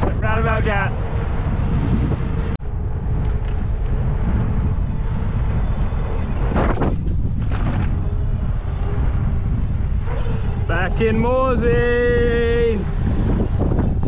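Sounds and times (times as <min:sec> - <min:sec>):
road noise: 0:00.0 - 0:14.0
wind on microphone: 0:00.0 - 0:14.0.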